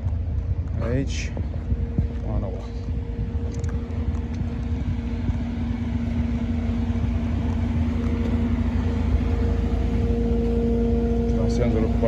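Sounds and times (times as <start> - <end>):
steady hum: 0.0 - 12.0
truck engine running: 0.0 - 12.0.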